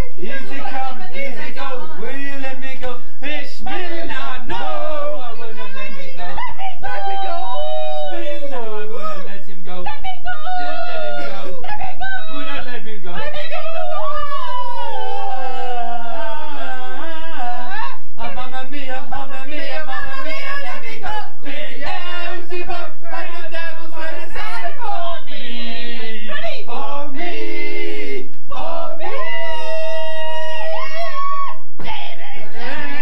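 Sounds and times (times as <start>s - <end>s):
men singing a cappella harmony: 0.0s - 31.1s, 31.8s - 33.0s.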